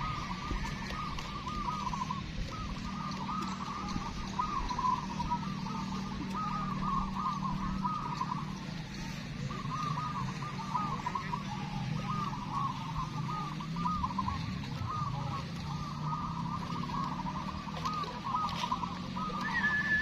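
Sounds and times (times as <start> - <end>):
doves cooing: 0.0 - 20.0
low steady hum: 0.0 - 20.0.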